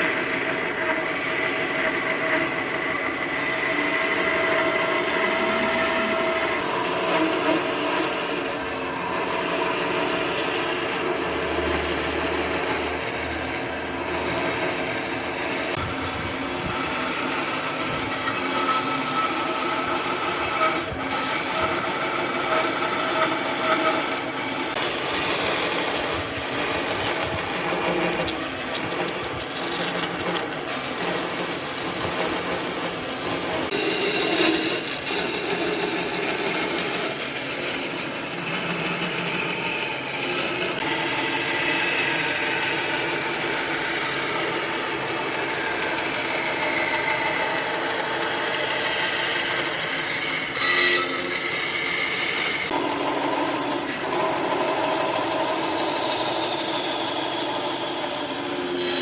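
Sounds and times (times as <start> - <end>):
power tool cutting wood: 0.0 - 59.0.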